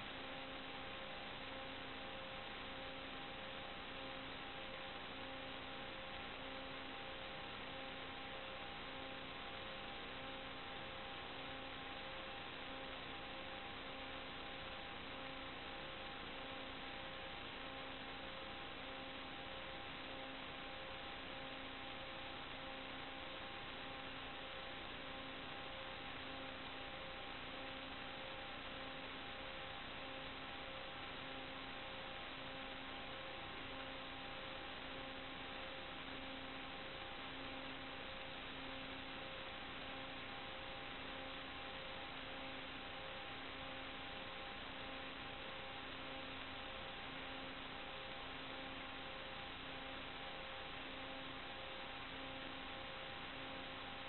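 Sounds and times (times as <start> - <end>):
faint hum tones: 0.0 - 54.0.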